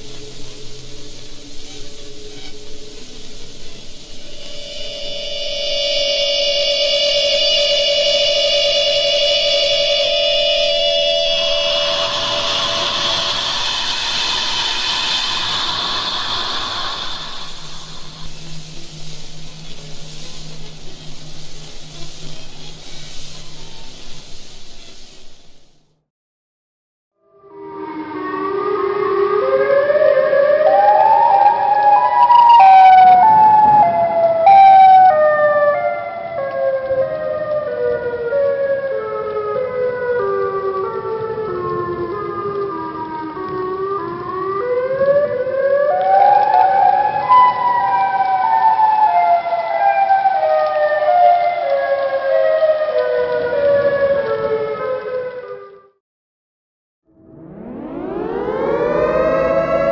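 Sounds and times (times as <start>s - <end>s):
electronic warning siren: 0.0s - 24.0s, 27.3s - 56.0s, 57.1s - 59.9s.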